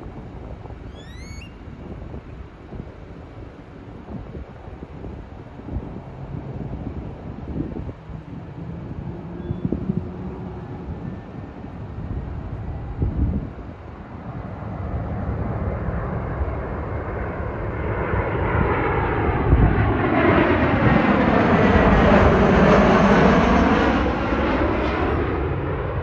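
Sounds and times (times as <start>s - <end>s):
jet plane roaring overhead: 0.0s - 26.0s.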